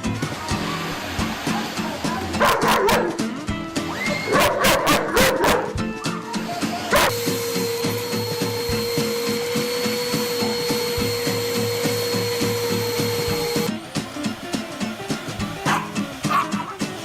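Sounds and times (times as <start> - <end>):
vacuum cleaner running: 0.0 - 4.7, 6.3 - 17.0
background music beat: 0.0 - 17.0.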